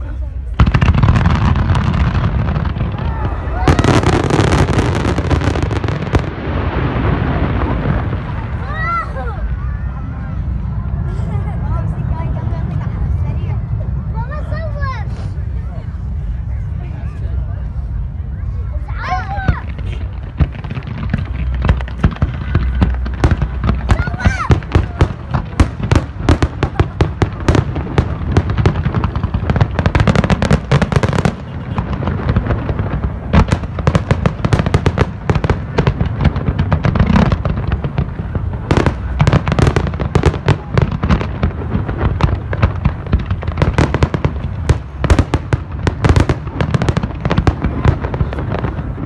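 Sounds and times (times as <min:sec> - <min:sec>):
fireworks banging: 0:00.0 - 0:13.6, 0:19.1 - 0:49.0.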